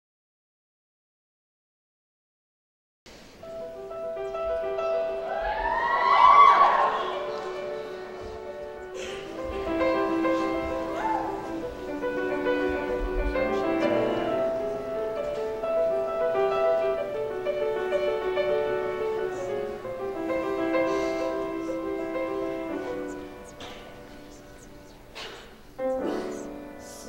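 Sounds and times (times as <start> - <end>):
grand piano playing: 3.1 - 27.0.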